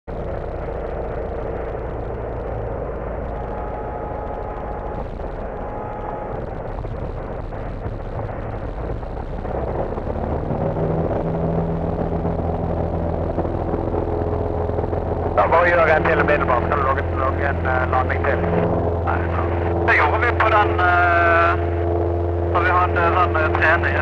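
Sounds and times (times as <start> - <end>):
airplane engine and propeller hum: 0.1 - 24.0.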